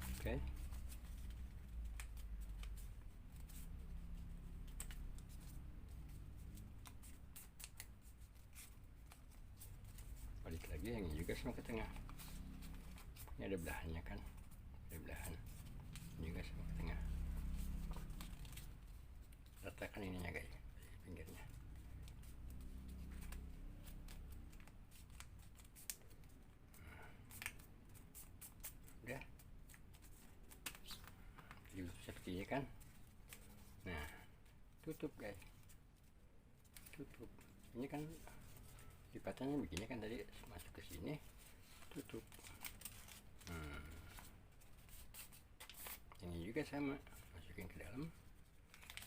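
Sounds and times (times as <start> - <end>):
paper crinkling and folding: 0.0 - 49.0.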